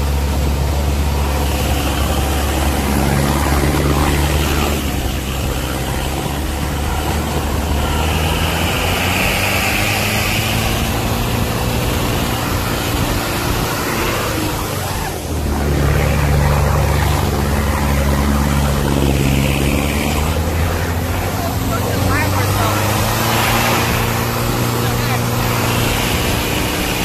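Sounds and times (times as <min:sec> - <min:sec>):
off-road vehicle engine under load: 0:00.0 - 0:27.0
water rushing and splashing: 0:00.0 - 0:27.0.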